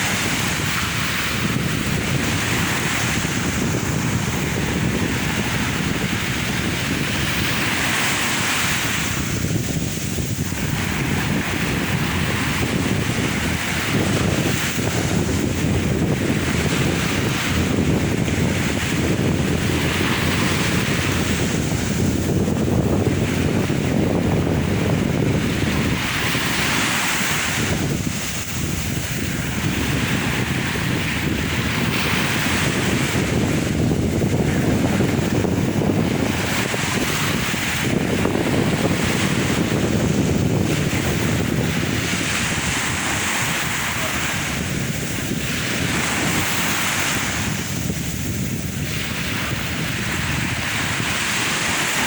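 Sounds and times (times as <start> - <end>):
sea waves washing onto shore: 0.0 - 52.0
wind buffeting microphone: 0.0 - 52.0.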